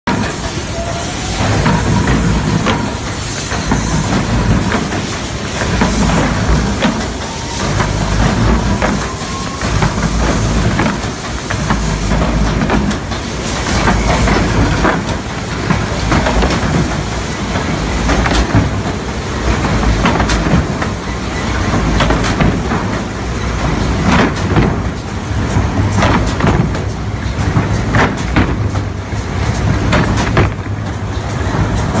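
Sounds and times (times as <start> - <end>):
sanding machine rumbling: 0.1 - 32.0
knocks and clatter: 1.3 - 32.0.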